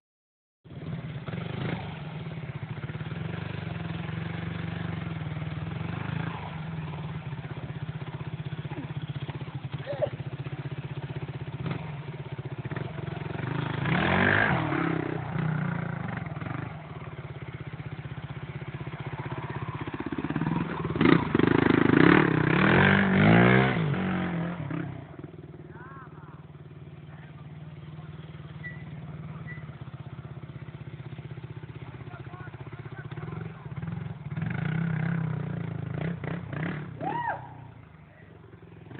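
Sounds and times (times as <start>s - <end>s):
motorcycle engine revving: 0.7s - 38.9s.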